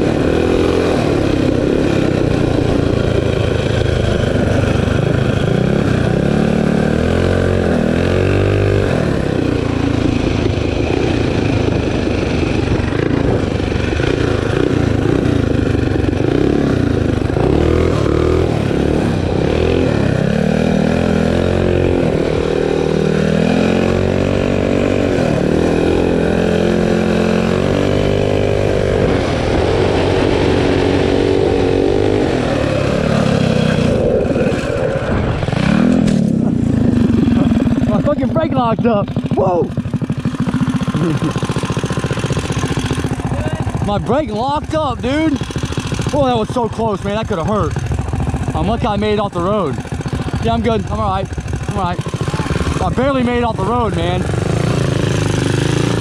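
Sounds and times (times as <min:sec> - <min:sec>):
small engine revving: 0:00.0 - 0:56.0
wind and road noise: 0:00.0 - 0:56.0.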